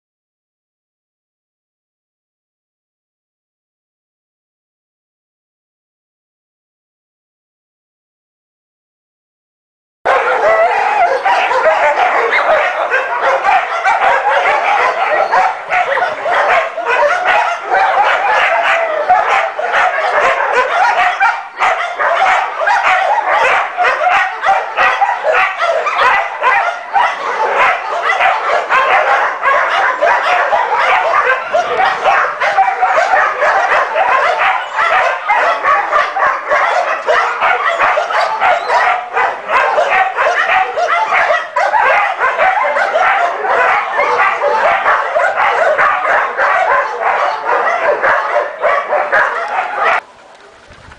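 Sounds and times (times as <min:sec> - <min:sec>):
dogs barking and yelping: 0:10.1 - 0:50.9.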